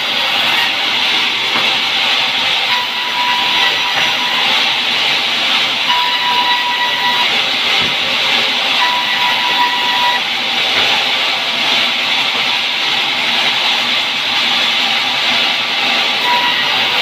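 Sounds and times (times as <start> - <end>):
thin steady whine: 0.0 - 13.0, 16.2 - 17.0
band saw cutting log: 0.0 - 17.0.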